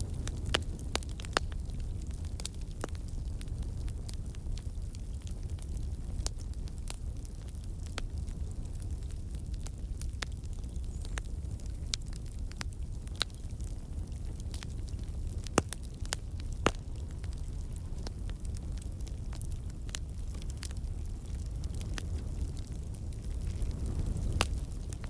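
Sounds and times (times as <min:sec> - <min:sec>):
campfire flames rumbling: 0:00.0 - 0:25.0
fire crackling and popping: 0:00.0 - 0:25.0.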